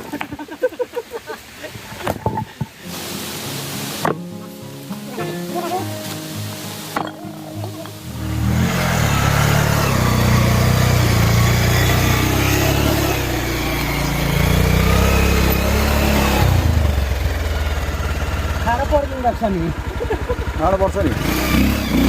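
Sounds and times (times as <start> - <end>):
motorcycle engine revving: 3.0 - 22.0.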